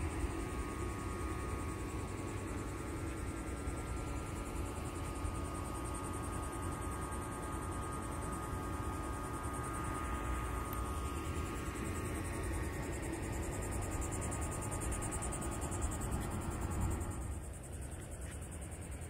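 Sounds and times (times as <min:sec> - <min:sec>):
insects trilling: 0:00.0 - 0:19.0
low steady rumble: 0:00.0 - 0:19.0.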